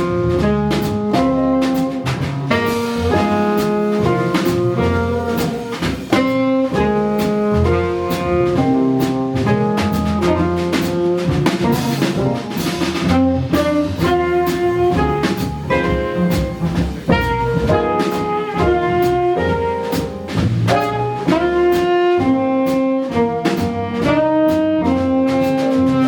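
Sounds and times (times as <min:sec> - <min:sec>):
jazz combo playing: 0:00.0 - 0:26.0
saxophone: 0:00.0 - 0:26.0.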